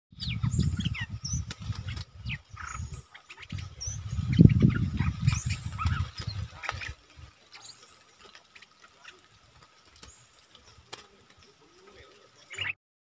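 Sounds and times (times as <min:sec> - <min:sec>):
birds chirping and whistling: 0:00.1 - 0:12.8.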